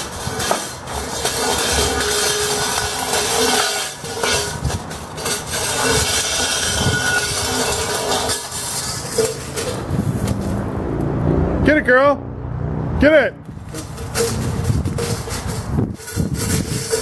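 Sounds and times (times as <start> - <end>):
metal bowl scraping on concrete: 0.0 - 10.7, 13.5 - 17.0.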